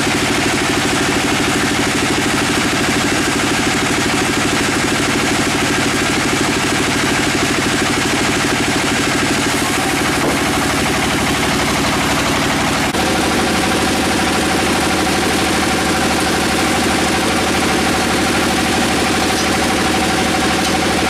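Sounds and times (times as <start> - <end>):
sawmill machinery droning: 0.0 - 21.0
steady machine whine: 0.0 - 21.0.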